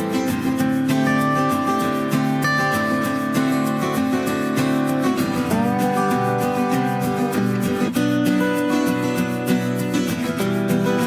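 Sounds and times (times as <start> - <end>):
acoustic guitar picking: 0.0 - 11.0.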